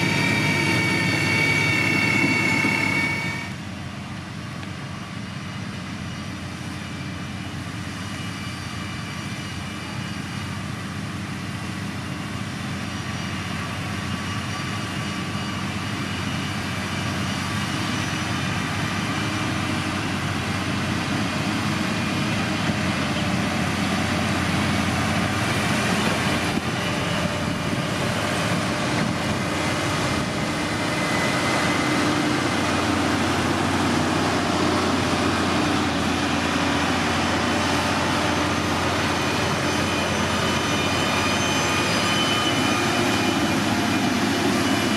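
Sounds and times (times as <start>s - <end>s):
heavy machinery diesel engine: 0.0s - 44.9s.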